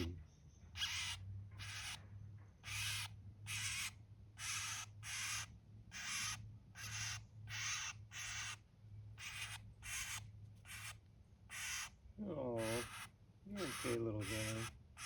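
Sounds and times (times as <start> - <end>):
bird hissing distress calls: 0.8 - 2.0, 2.6 - 8.6, 9.2 - 11.9, 12.5 - 15.0.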